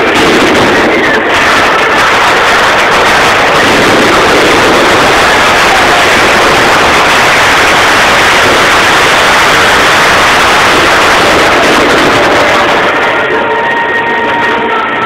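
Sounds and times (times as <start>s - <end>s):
fireworks and firecrackers exploding: 0.0s - 13.8s.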